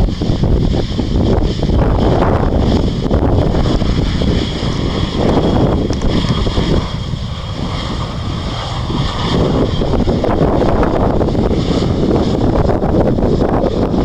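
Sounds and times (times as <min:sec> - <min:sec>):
faint jet engine whine: 0:00.0 - 0:14.0
wind buffeting microphone: 0:00.0 - 0:14.0.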